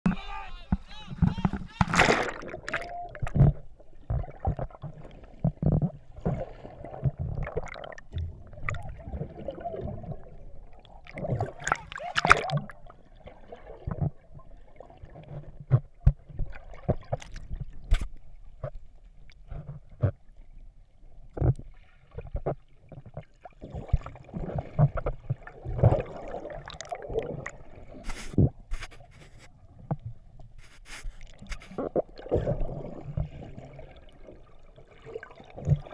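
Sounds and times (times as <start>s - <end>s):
underwater sloshing and gurgling: 0.7s - 35.9s.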